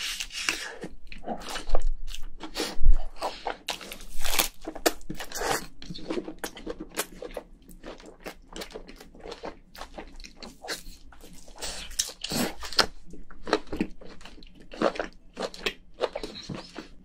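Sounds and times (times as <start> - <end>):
person chewing wetly: 0.0 - 17.0.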